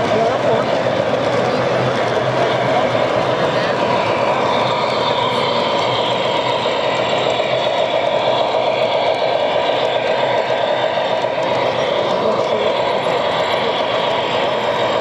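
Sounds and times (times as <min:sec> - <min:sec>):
model trains running on track: 0:00.0 - 0:15.0.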